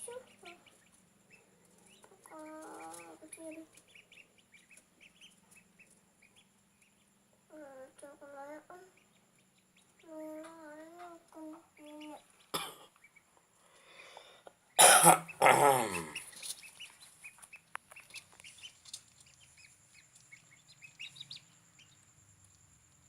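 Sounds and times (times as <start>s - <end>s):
chicks peeping: 0.0s - 14.5s, 16.0s - 22.6s.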